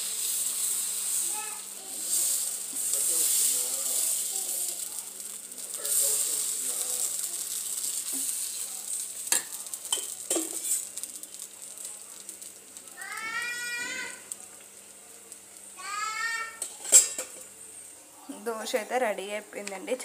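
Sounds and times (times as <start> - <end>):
batter sizzling in a hot pan: 0.0 - 20.0.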